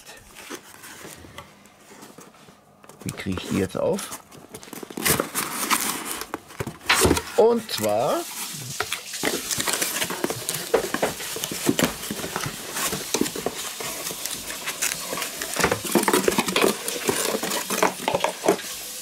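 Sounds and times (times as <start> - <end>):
packaging crackling and rustling: 0.0 - 19.0.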